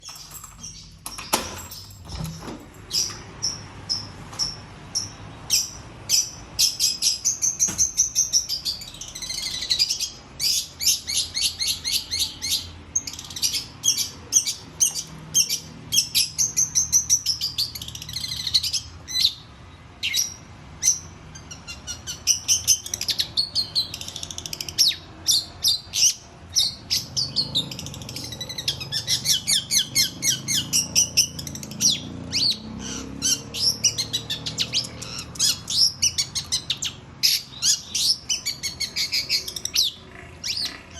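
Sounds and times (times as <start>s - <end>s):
bird singing high chirps and trills: 0.0s - 40.9s.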